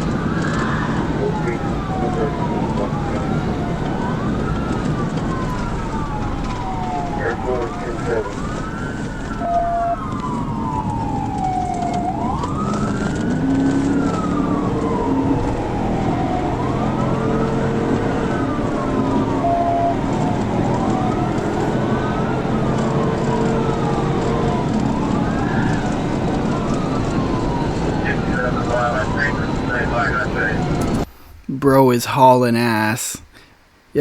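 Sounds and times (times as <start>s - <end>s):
police siren wailing: 0.0s - 31.1s
car engine: 0.0s - 31.5s
road noise: 0.0s - 34.0s.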